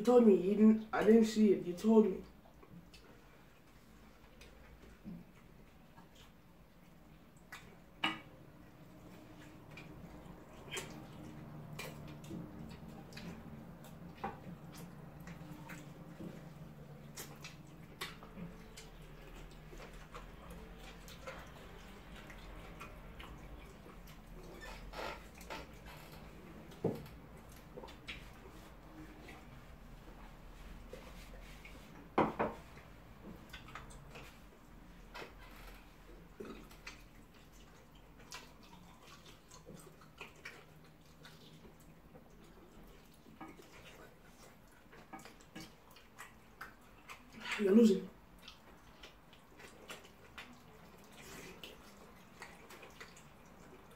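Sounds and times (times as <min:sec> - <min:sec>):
low steady hum: 0:00.0 - 0:53.9
wet chewing and lip-smacking: 0:02.2 - 0:53.9.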